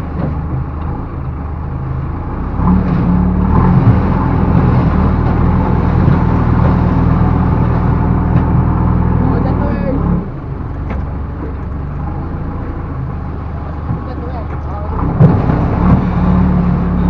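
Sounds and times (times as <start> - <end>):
diesel engine running and revving: 0.0 - 17.0.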